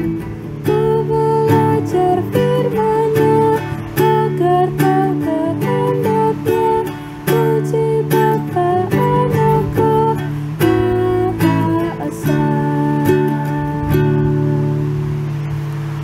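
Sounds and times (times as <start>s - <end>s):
acoustic guitar strumming hymn: 0.0s - 16.0s.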